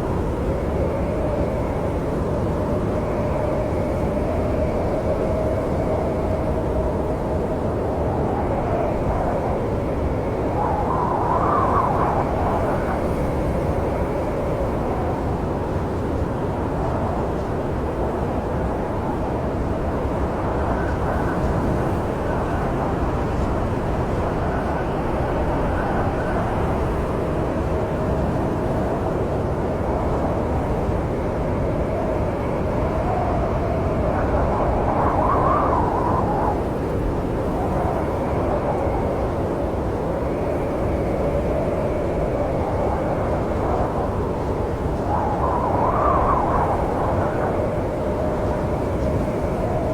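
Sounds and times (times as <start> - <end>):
snowstorm wind howling: 0.0 - 49.9.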